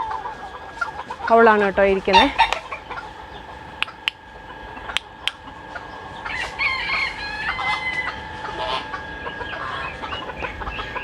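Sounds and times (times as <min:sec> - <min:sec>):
chickens clucking: 0:00.0 - 0:11.0
rooster crowing: 0:02.1 - 0:11.0.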